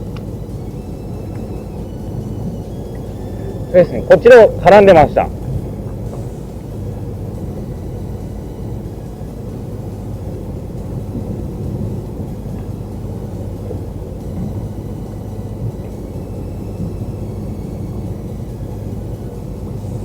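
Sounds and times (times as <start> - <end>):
boat diesel engine running: 0.0 - 20.0.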